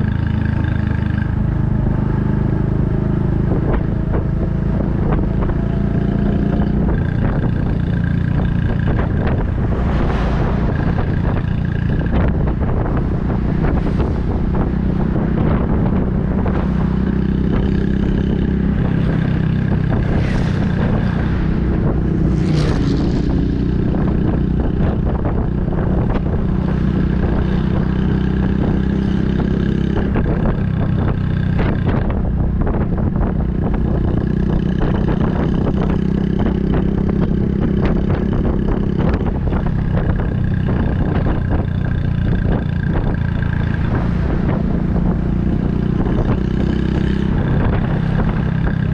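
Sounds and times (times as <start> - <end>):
motorcycle engine running: 0.0 - 48.9
wind rushing over microphone: 0.0 - 48.9.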